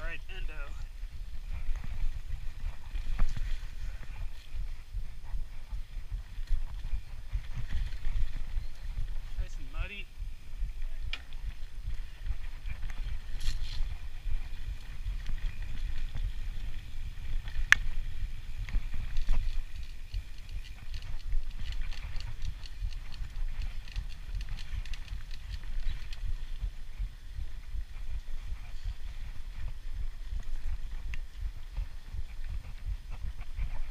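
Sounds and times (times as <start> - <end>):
tyres and wind rumbling: 0.0 - 33.9
bike rattling and clicking: 1.0 - 33.9.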